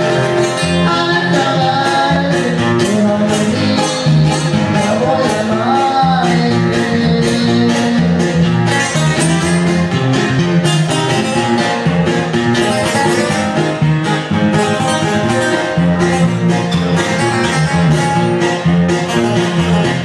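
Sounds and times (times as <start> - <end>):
live band playing: 0.0 - 20.0
plucked string instrument: 0.0 - 20.0.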